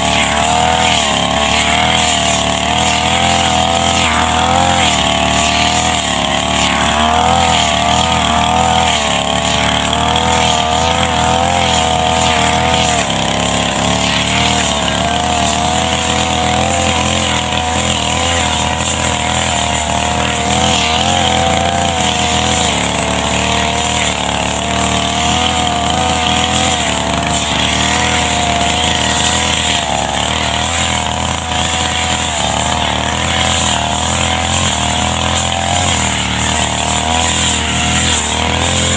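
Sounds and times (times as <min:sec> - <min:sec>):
brush cutter engine running: 0:00.0 - 0:38.9.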